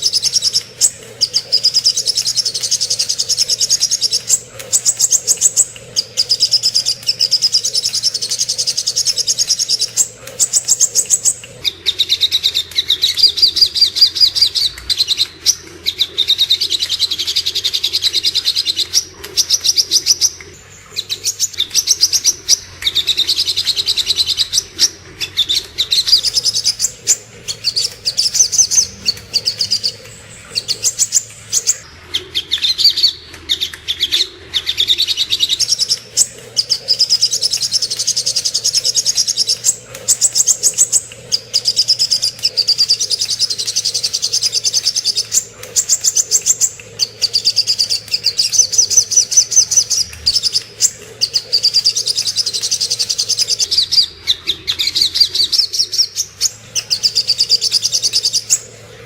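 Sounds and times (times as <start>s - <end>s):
bird singing rapid chattering trills: 0.0s - 31.9s, 34.6s - 59.0s.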